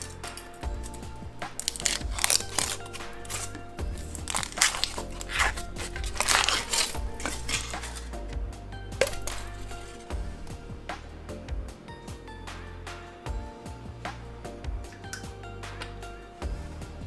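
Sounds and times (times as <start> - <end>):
background music with low beat: 0.0 - 17.0.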